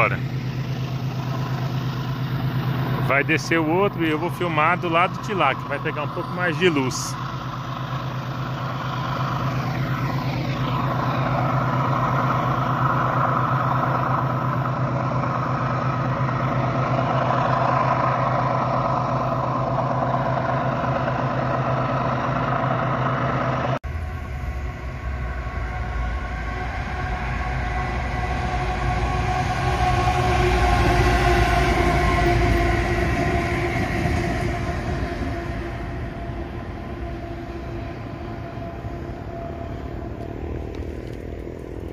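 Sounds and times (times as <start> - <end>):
locomotive engine drone: 0.0 - 41.9
locomotives rumbling past: 0.0 - 41.9.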